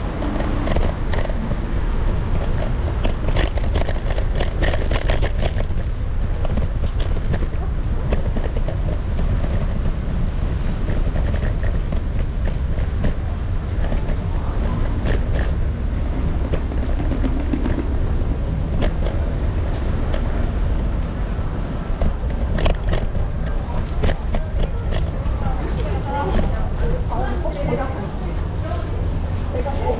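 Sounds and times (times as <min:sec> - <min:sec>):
scooter wheels rolling on paving: 0:00.0 - 0:29.9.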